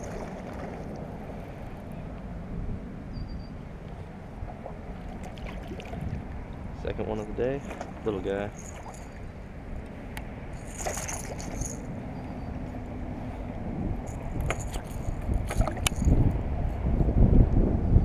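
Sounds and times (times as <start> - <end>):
low rumbling wind: 0.0 - 18.0.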